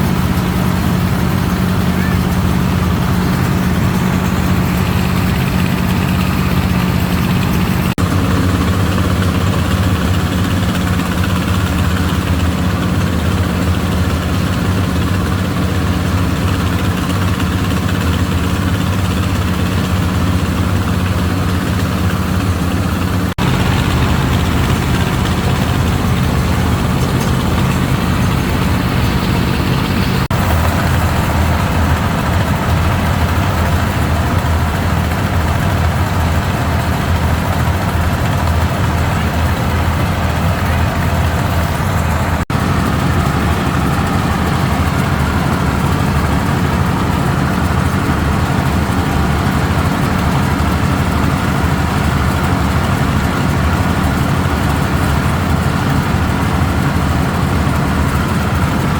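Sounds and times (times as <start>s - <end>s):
motor engine humming: 0.0s - 58.9s.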